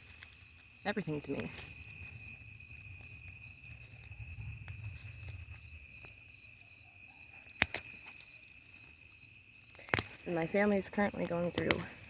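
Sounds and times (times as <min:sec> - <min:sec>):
high insect trill: 0:00.0 - 0:12.0
insect chirping: 0:00.0 - 0:12.0.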